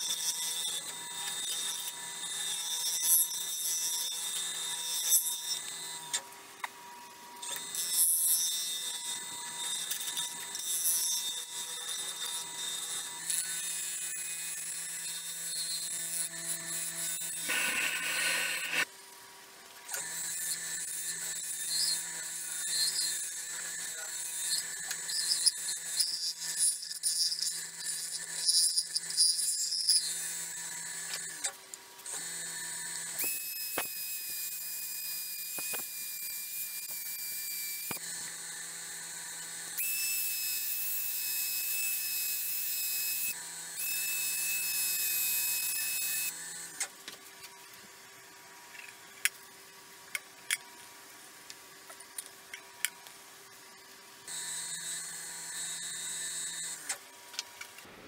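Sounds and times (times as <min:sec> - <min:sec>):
rotary tool whining: 0:00.0 - 0:18.9, 0:19.9 - 0:47.8, 0:51.9 - 0:58.0.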